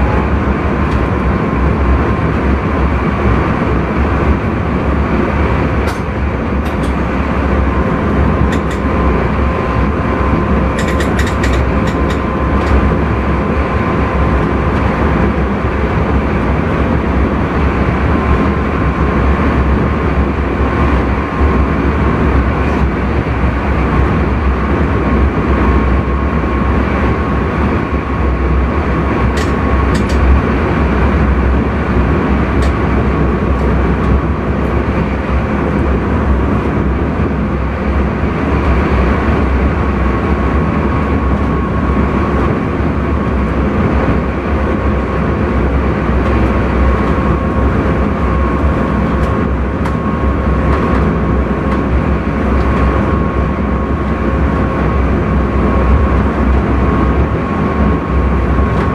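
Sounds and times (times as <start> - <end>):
train rumble and rush: 0.0 - 58.9.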